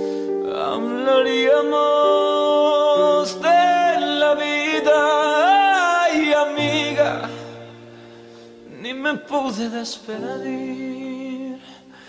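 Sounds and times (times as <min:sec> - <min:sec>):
man singing a pop ballad: 0:00.4 - 0:12.0.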